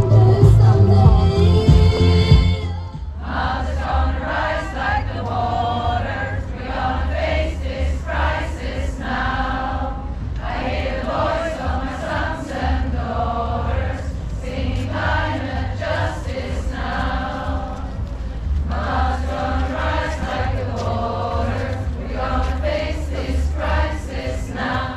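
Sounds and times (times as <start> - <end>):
group singing protest chant: 0.0 - 24.9.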